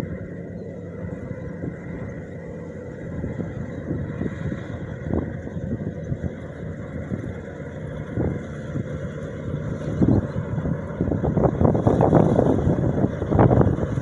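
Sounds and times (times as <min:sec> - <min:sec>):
harvester engine drone: 0:00.0 - 0:14.0.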